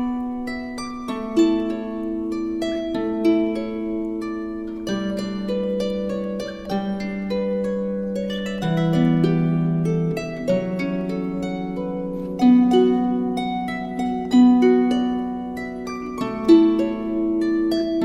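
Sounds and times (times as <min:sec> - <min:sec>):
plucked string music: 0:00.0 - 0:18.0.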